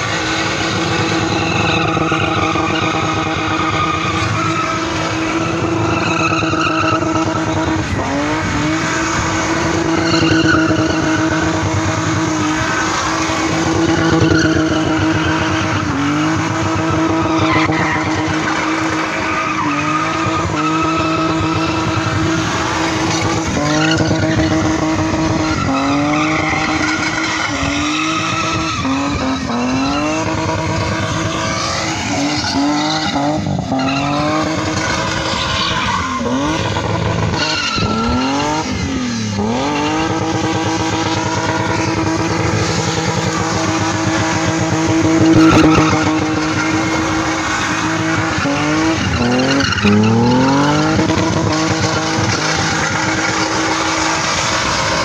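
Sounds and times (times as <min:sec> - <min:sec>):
car engine at high revs: 0:00.0 - 0:55.0
tyre squeal: 0:00.1 - 0:55.0.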